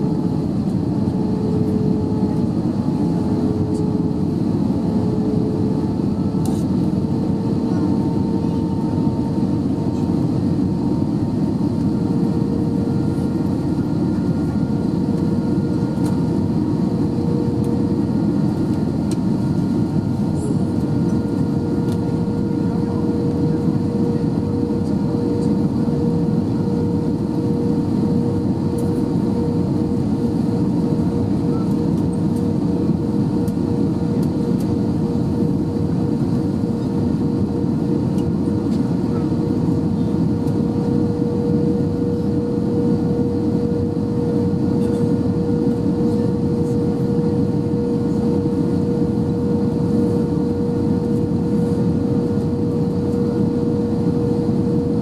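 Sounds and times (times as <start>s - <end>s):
airplane cabin engine drone: 0.0s - 55.0s
constant hum: 0.0s - 55.0s.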